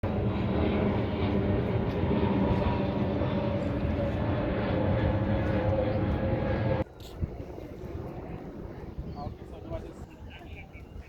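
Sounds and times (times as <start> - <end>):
roar of strong wind: 0.0 - 10.0.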